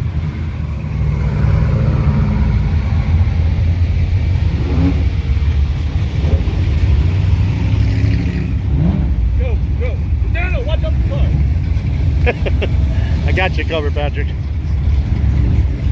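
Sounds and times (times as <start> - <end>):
car engines rumbling: 0.0 - 15.9.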